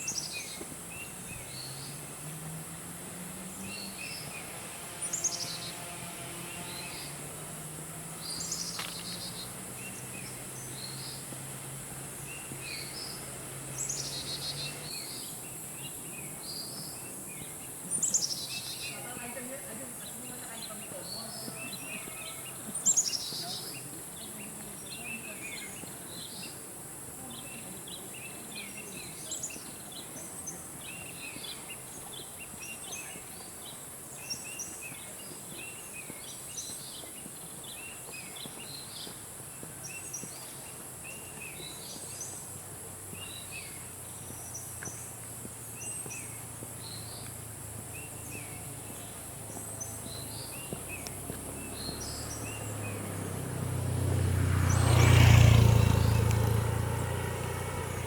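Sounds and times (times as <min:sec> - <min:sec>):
forest birds chirping: 0:00.0 - 0:58.0.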